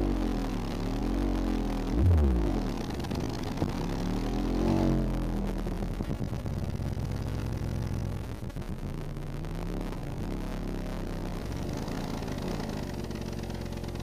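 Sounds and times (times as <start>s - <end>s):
subwoofer playing deep bass: 0.0s - 14.0s.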